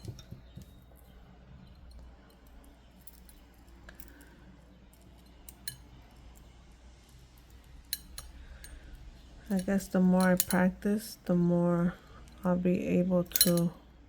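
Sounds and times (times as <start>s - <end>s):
jewelry tools clicking on wire: 0.0s - 13.9s.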